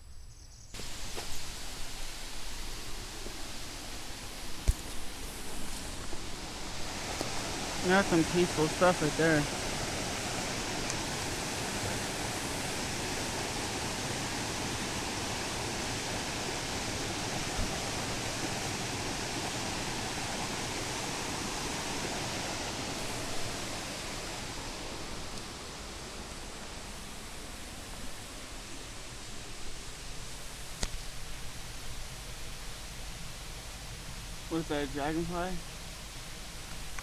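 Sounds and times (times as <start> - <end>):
steady rushing hiss: 0.0 - 37.0.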